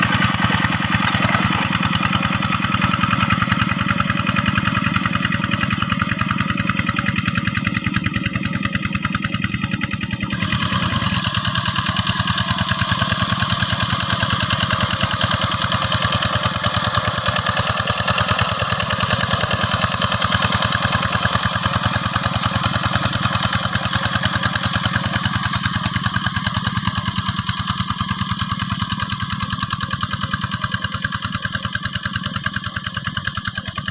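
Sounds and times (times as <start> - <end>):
diesel engine chugging: 0.0 - 33.9.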